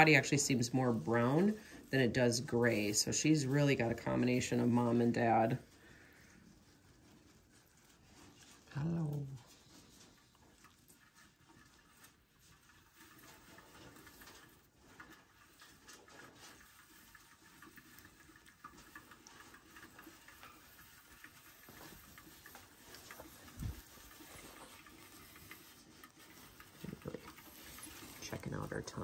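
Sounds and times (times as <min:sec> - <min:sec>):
faint ticks and rustles: 0:00.0 - 0:29.0.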